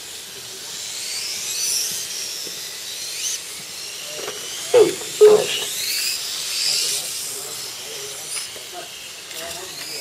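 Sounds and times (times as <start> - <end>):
electric motors whining: 0.0 - 10.0.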